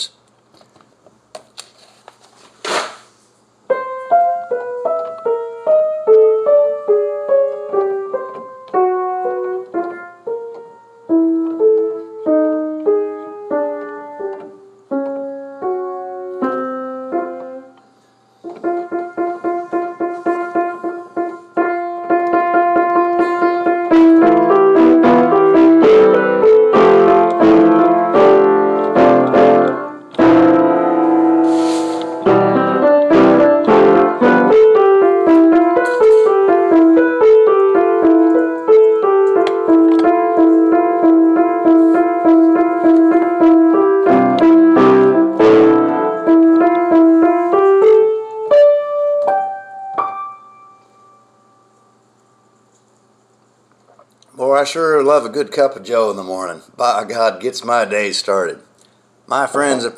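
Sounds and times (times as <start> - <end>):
piano playing: 3.6 - 51.8.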